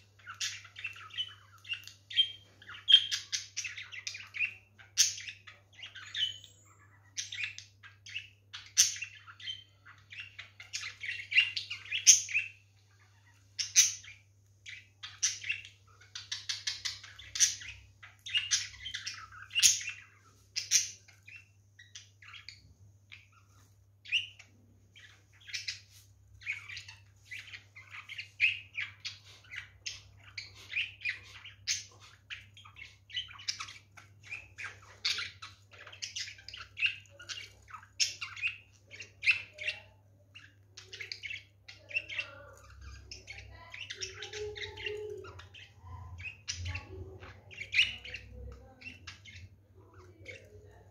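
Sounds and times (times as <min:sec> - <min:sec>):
budgerigars chirping and chattering: 0:00.0 - 0:50.9.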